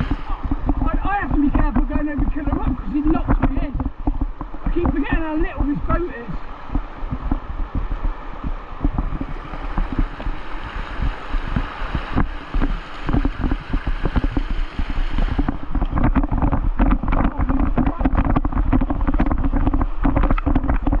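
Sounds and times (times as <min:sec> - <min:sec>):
rushing whitewater: 0:00.0 - 0:03.9, 0:04.5 - 0:21.0
water splashes and knocks: 0:00.0 - 0:21.0
wind buffeting microphone: 0:00.0 - 0:21.0.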